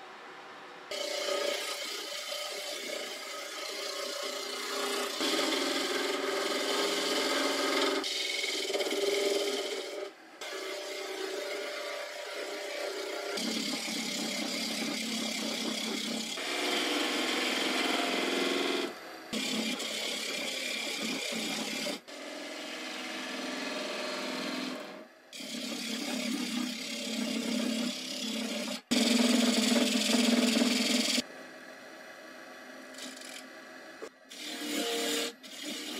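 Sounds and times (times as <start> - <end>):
chisel cutting spinning wood: 1.0 - 31.2, 34.3 - 35.9.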